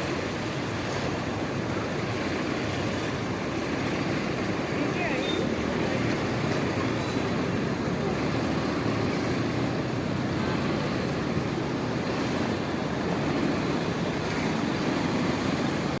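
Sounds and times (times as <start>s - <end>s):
engines and road traffic rumble: 0.0s - 16.0s.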